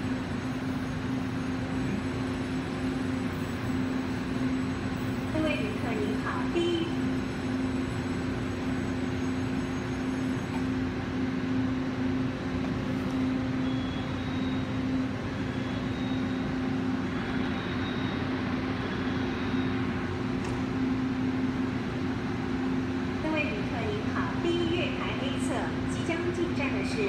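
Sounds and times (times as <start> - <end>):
train low hum: 0.0 - 27.0.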